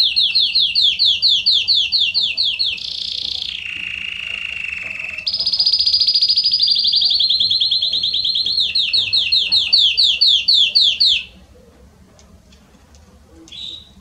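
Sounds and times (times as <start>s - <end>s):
canary singing: 0.0s - 11.5s, 13.3s - 14.0s.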